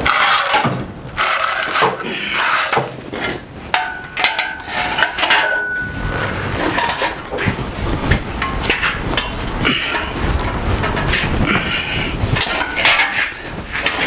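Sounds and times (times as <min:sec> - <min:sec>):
metallic clanking and rattling: 0:00.0 - 0:14.0.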